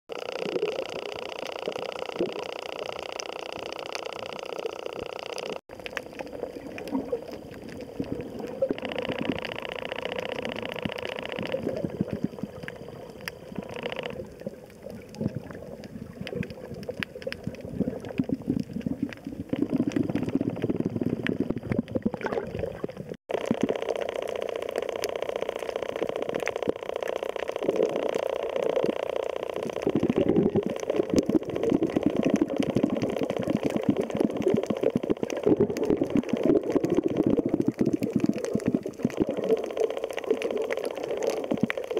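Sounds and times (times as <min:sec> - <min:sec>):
fine crackle of tiny clicks: 0:00.1 - 0:22.4, 0:23.3 - 0:41.9
underwater bubbling: 0:00.1 - 0:41.9.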